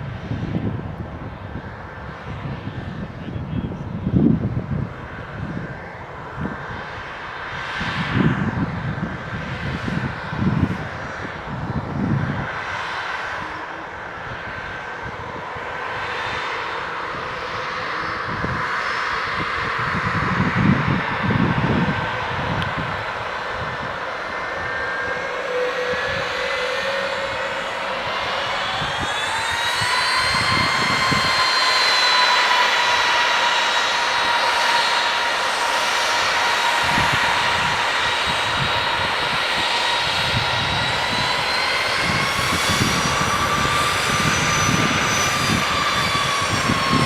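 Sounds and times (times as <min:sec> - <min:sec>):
airplane engine roar: 0:00.0 - 0:47.0
wind buffeting microphone: 0:00.0 - 0:47.0.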